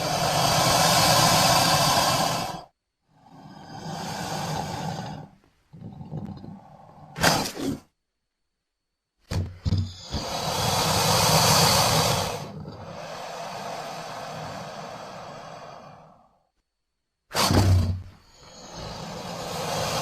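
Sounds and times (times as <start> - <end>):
creature breathy hiss: 0.0 - 7.9, 9.9 - 16.4, 17.3 - 20.0.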